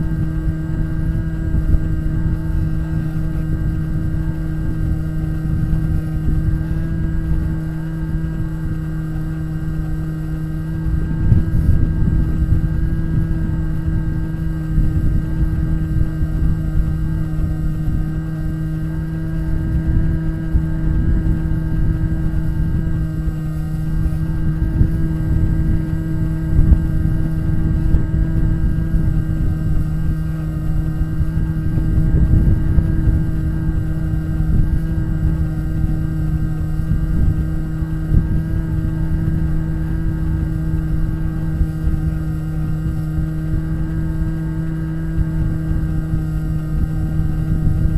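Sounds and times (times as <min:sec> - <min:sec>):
electric motor and propeller droning: 0:00.0 - 0:47.9
wind rumbling on microphone: 0:00.0 - 0:47.9.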